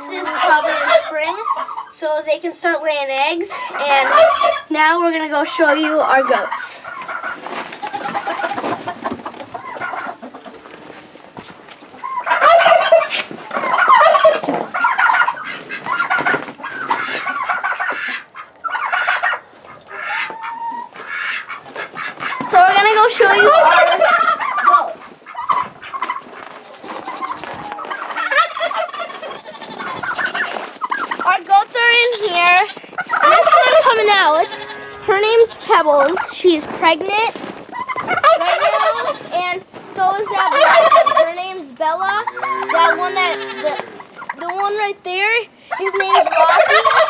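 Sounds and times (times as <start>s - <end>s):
hens clucking and calling: 0.0s - 47.0s.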